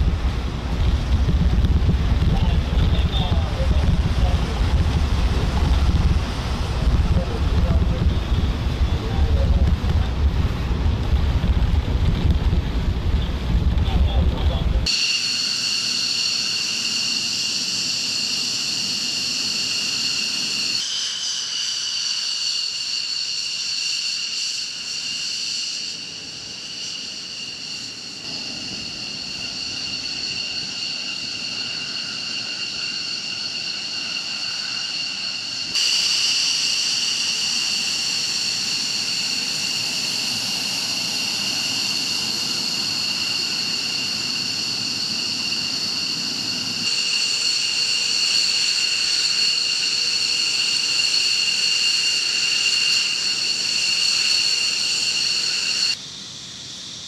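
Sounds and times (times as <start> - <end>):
jet engine turbine whine: 0.0 - 57.0.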